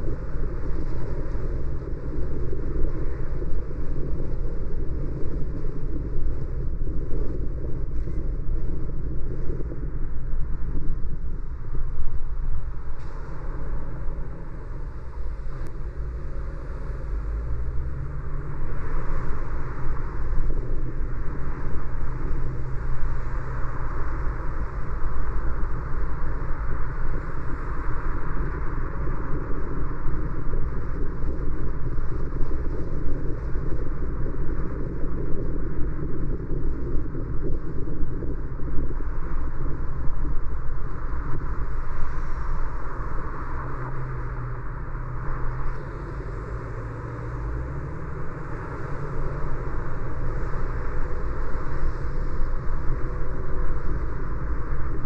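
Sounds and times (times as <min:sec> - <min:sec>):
car driving on street: 0:00.0 - 0:55.0.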